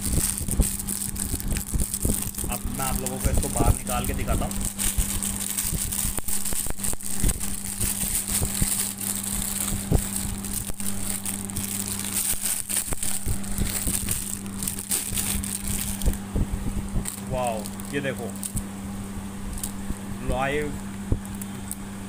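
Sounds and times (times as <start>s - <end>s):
plastic packaging crinkling: 0.0s - 16.3s, 17.0s - 18.7s, 19.5s - 21.8s.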